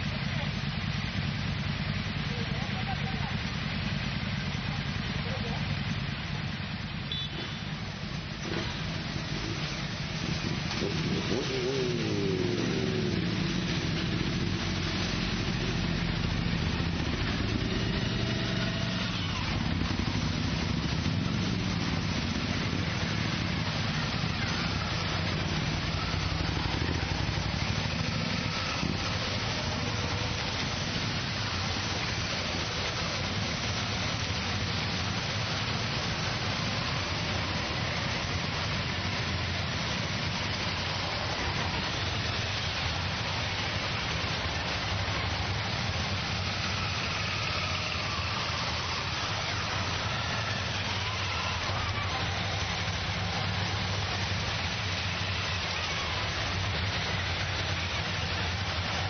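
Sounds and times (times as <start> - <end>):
motorcycles riding past: 0.0 - 59.0
rain hiss on wet road: 0.0 - 59.0.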